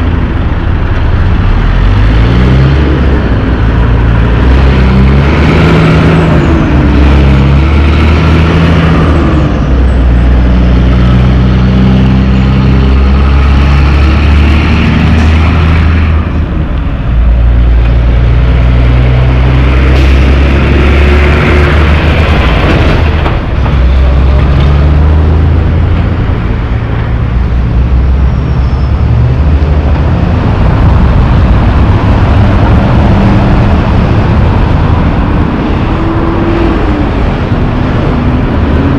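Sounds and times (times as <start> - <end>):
diesel trucks shifting gears: 0.0 - 38.9
passing car traffic: 0.0 - 38.9.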